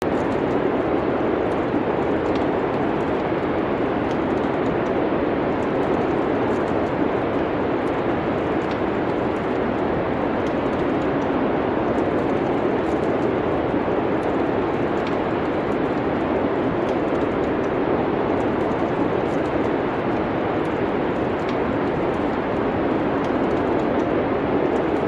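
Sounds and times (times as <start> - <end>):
rushing wind: 0.0 - 25.0
wood fire crackling: 0.0 - 25.0.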